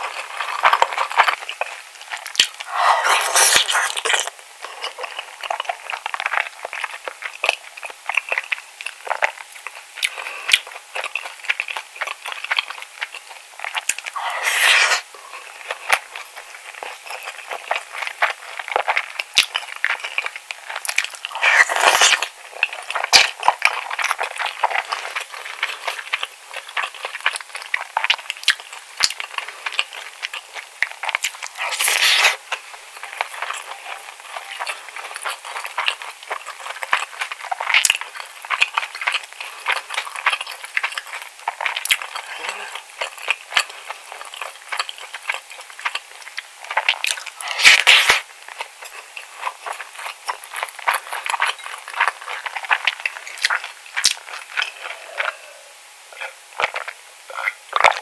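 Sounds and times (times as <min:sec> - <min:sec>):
person chewing with mouth clicks: 0:00.0 - 0:58.0.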